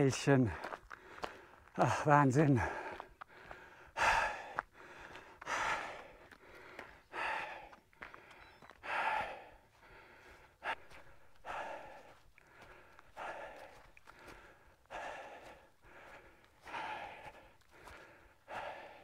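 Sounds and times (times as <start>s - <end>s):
man breathing heavily: 0.4s - 19.0s.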